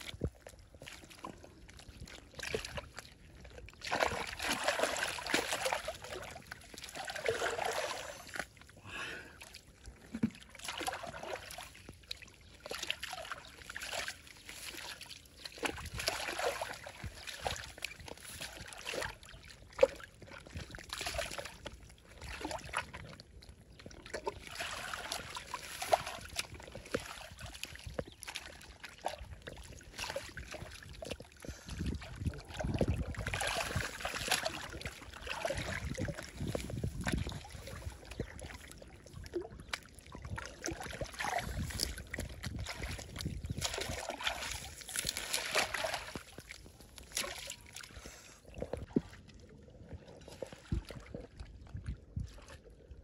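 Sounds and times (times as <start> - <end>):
stream water splashing: 0.0 - 51.5.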